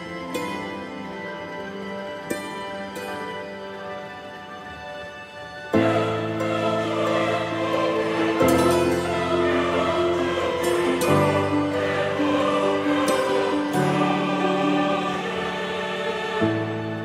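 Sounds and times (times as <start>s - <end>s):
sustained choral chords: 0.0s - 17.0s.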